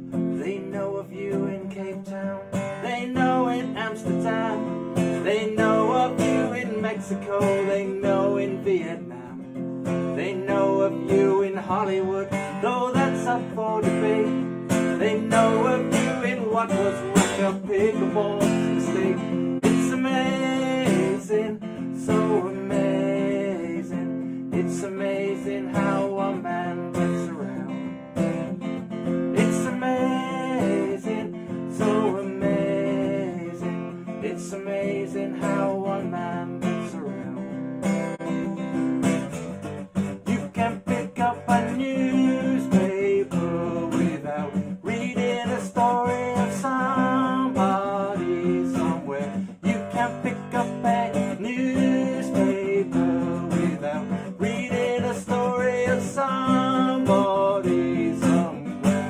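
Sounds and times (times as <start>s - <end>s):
song with strummed acoustic guitar: 0.0s - 59.0s.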